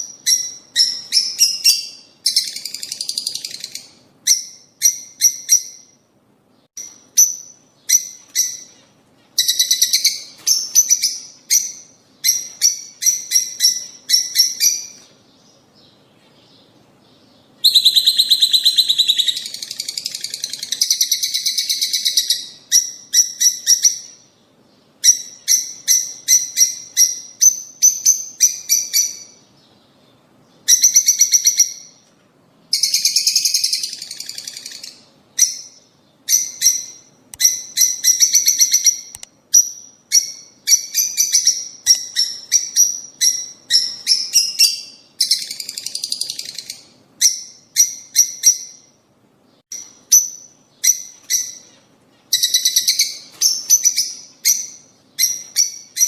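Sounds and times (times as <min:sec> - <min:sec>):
lovebirds chirping: 0:00.0 - 0:56.0.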